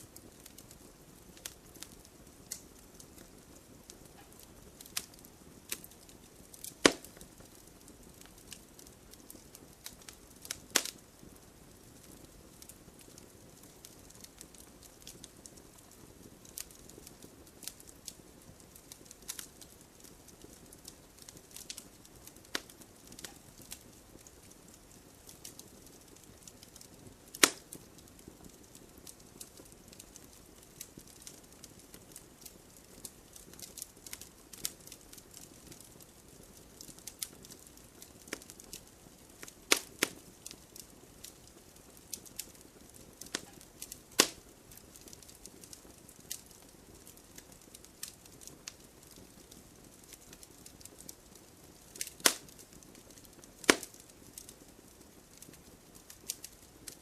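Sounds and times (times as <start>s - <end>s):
wood fire crackling: 0.0s - 57.0s
loud fire pops: 0.1s - 57.0s.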